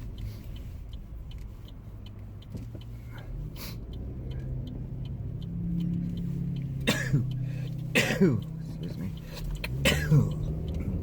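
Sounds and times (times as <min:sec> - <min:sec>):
car engine and road rumble: 0:00.0 - 0:11.0
faint regular ticking: 0:00.0 - 0:11.0.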